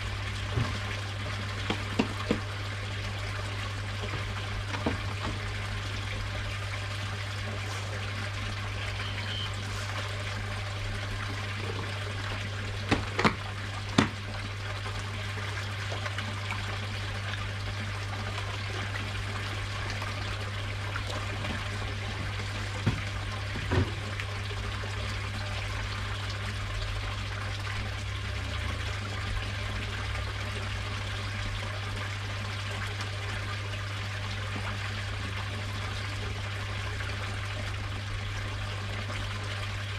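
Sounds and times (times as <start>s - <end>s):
water trickling in pond: 0.0s - 39.9s.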